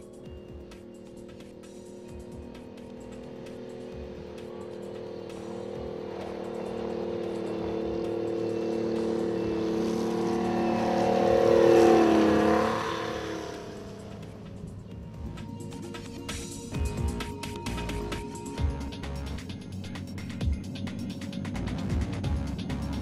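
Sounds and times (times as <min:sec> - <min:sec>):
military vehicle engine whine: 0:00.0 - 0:23.0.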